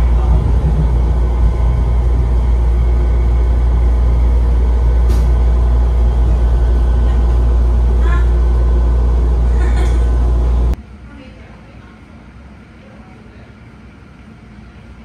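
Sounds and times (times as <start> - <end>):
train car rumble and hum: 0.0 - 15.0.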